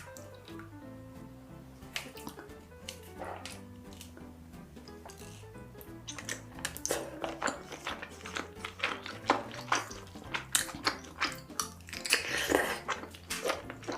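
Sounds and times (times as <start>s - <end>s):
faint background music: 0.0s - 13.9s
crisp chewing crunches: 1.9s - 13.9s.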